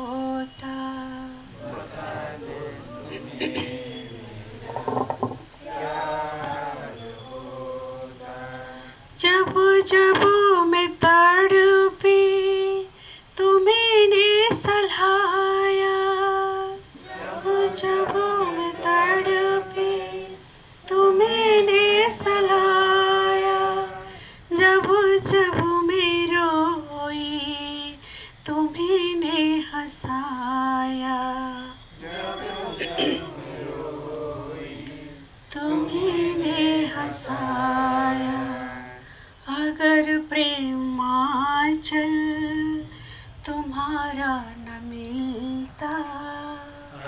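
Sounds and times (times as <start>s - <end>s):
woman singing unaccompanied: 0.0s - 33.4s, 34.0s - 47.0s.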